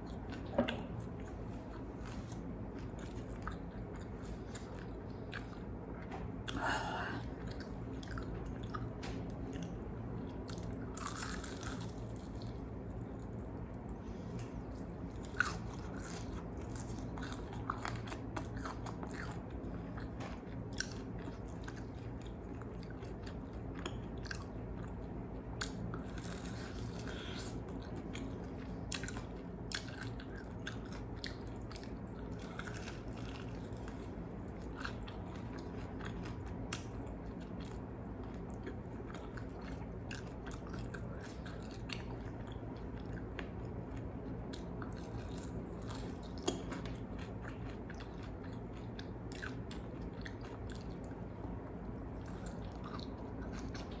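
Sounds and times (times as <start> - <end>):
chewing crispy chicken: 0.0 - 54.0
steady low hum: 0.0 - 54.0.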